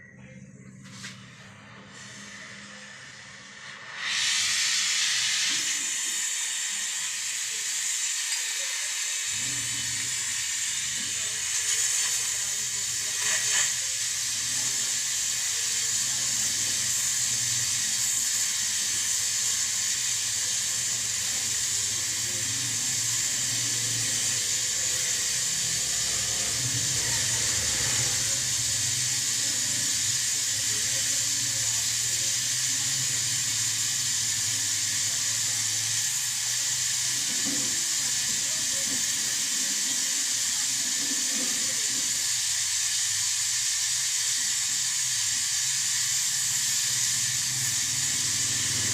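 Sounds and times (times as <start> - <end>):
steady hiss: 0.8 - 48.9.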